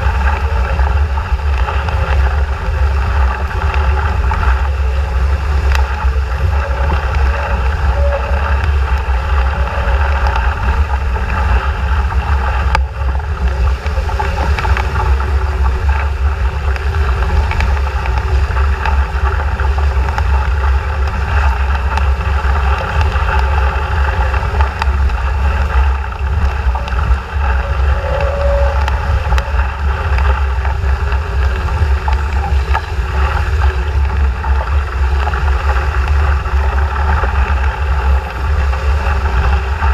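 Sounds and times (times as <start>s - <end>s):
water rushing along boat hull: 0.0s - 39.9s
wind noise on microphone: 0.0s - 39.9s.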